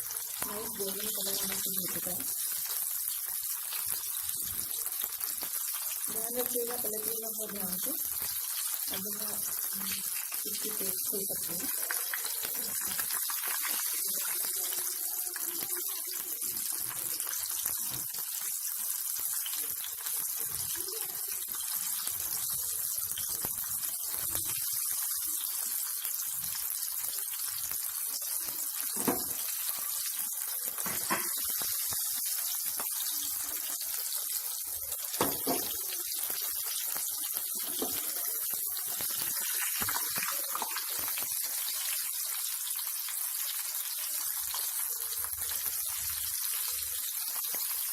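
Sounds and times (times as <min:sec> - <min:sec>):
patties deep-frying in oil: 0:00.0 - 0:47.9.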